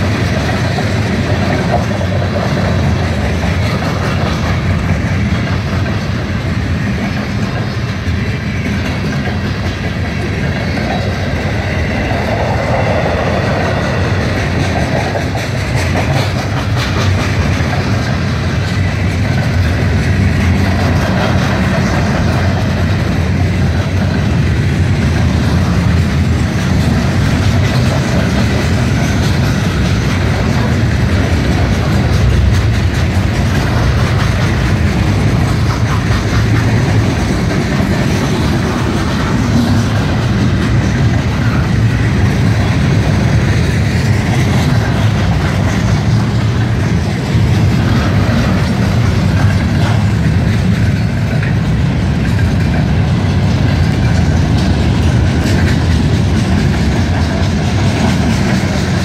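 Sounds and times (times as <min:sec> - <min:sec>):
freight train cars rumbling: 0:00.0 - 0:59.0
wheels clattering over rails: 0:00.0 - 0:59.0.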